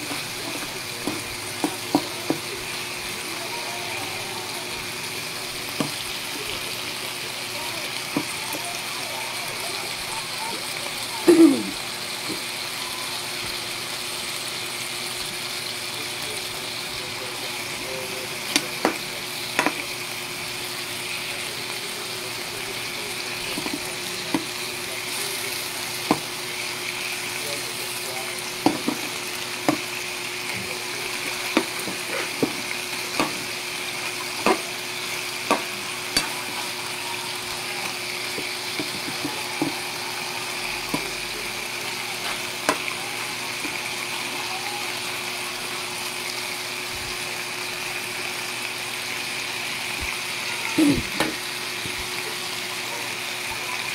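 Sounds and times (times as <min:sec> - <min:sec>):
chicken sizzling in a wok: 0:00.0 - 0:53.9.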